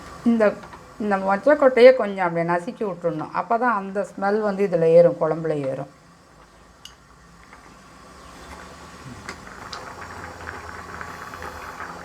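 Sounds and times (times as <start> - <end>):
gravy simmering bubbling hiss: 0.0 - 12.0.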